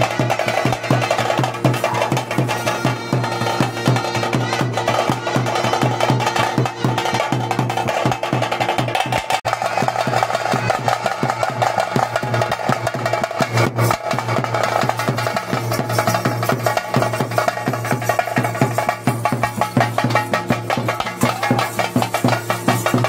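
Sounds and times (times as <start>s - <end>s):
fast drumming: 0.0s - 23.0s.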